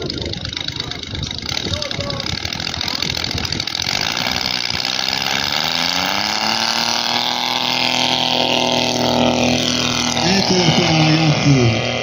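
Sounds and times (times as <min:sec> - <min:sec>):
model plane engine revving: 0:00.0 - 0:12.0.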